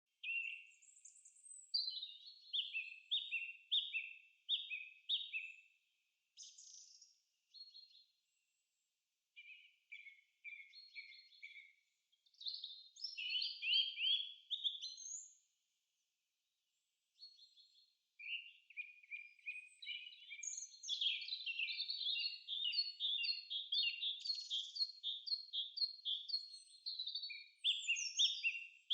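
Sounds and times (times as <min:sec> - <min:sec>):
songbird singing: 0:00.2 - 0:15.6, 0:16.7 - 0:28.9.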